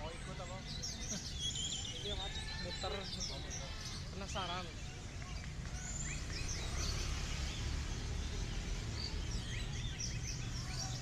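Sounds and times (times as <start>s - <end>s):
songbirds chirping and whistling: 0.0s - 11.0s.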